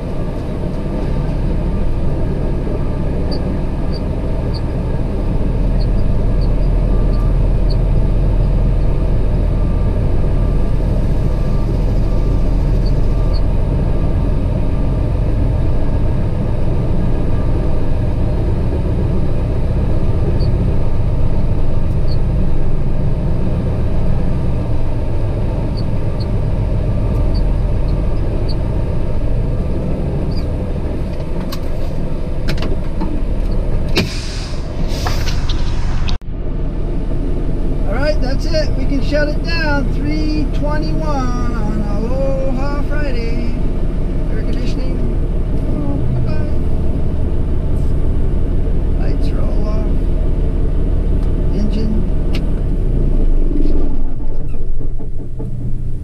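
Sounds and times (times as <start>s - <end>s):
truck engine rumbling: 0.0s - 56.0s.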